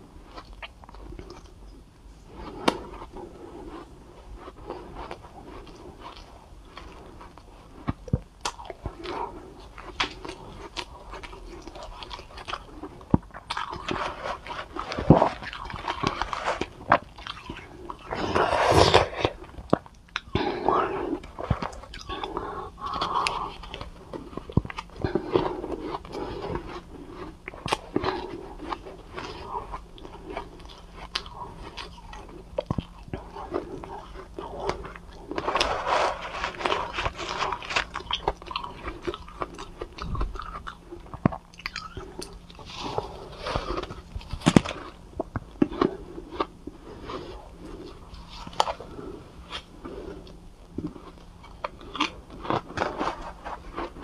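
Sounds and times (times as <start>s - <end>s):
chewing crunchy shaved ice: 0.0s - 54.0s.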